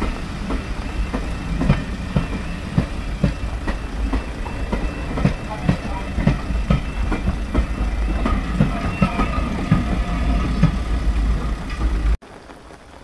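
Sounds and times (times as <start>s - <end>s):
level crossing warning alarm: 0.0s - 11.8s
train wheels clacking over rail joints: 0.0s - 12.2s.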